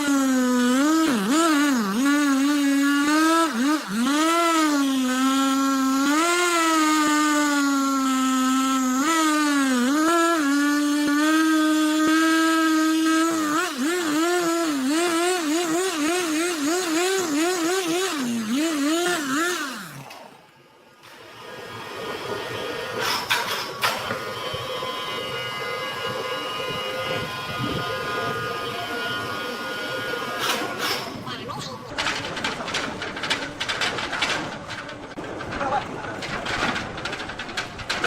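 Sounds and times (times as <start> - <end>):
chainsaw cutting wood: 0.0 - 31.3, 31.9 - 38.0.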